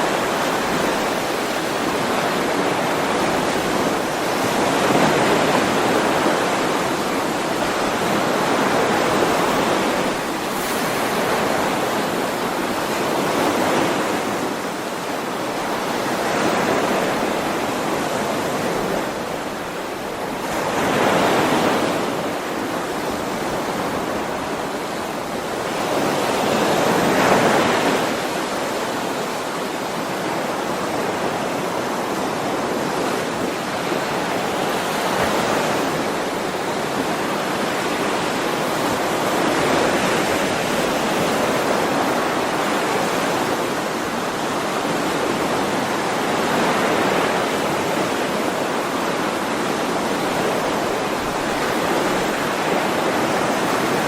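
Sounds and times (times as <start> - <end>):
ocean waves on shore: 0.0 - 54.0.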